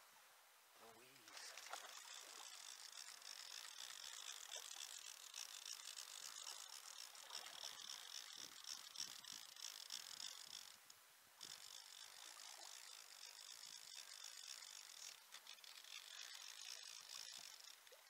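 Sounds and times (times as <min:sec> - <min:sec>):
fly reel drag ratcheting: 0:01.2 - 0:18.0.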